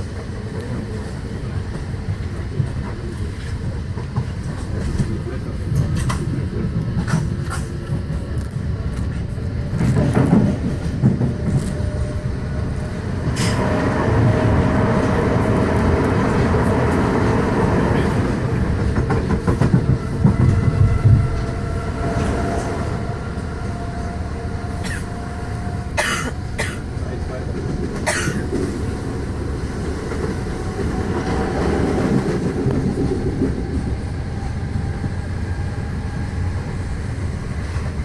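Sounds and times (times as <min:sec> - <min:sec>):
train rumble: 0:00.0 - 0:38.0.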